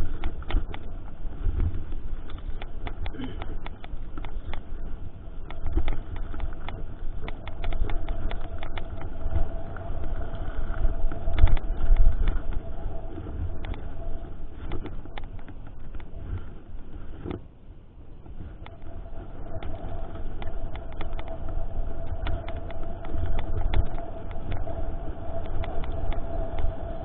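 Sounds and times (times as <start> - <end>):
faint steady whine: 0.0 - 27.0
wind buffeting microphone: 0.0 - 27.0.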